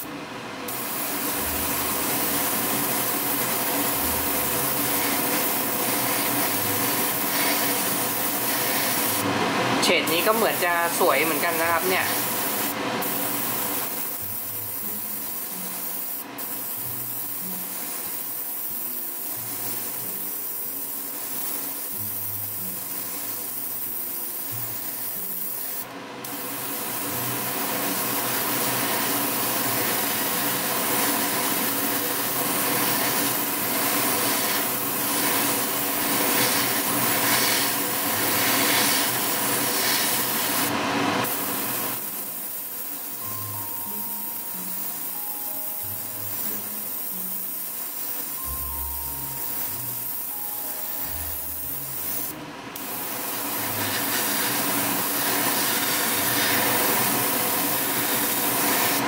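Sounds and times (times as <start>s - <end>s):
airbrush spraying hiss: 0.7s - 59.0s.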